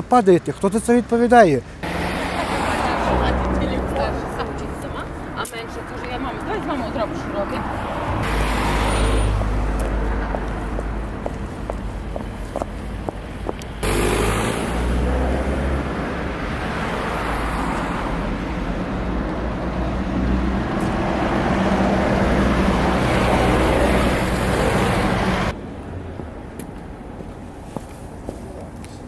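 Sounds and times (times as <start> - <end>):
cars driving past: 0.8 - 28.7.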